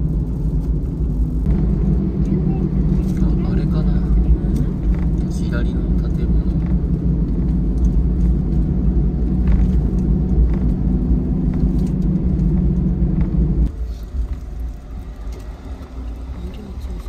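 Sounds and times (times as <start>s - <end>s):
road and engine rumble inside van: 0.0s - 17.0s.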